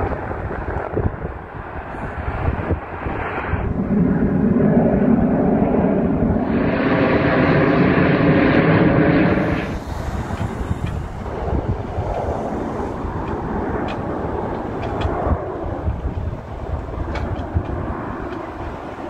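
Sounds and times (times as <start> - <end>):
jets flying overhead: 0.0 - 19.0.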